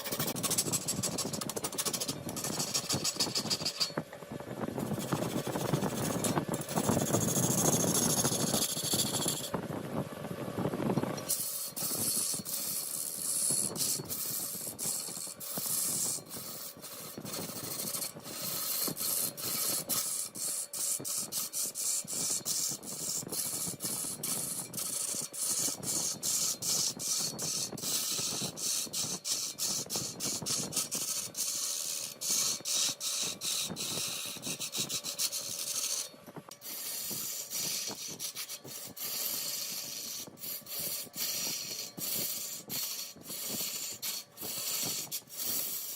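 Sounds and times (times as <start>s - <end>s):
lathe tool scraping wood: 0.0s - 4.1s, 4.7s - 9.6s, 11.1s - 45.9s
faint motor hum: 0.0s - 45.9s.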